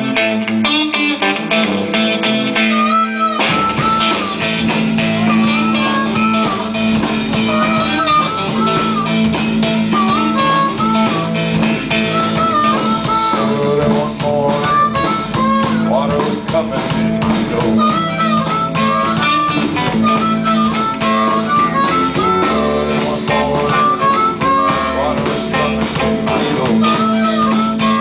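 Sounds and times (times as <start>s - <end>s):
blues band playing: 0.0s - 28.0s
electric guitar bending notes: 0.0s - 28.0s.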